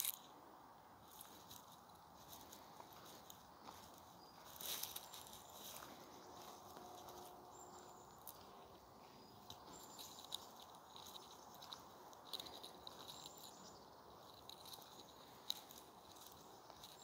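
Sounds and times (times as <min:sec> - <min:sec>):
footsteps on gravel: 0:01.1 - 0:17.0.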